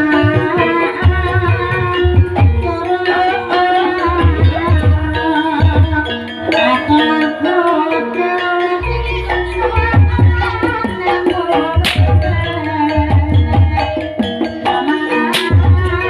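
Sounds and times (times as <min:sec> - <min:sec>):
metallophones ringing: 0:00.0 - 0:16.0.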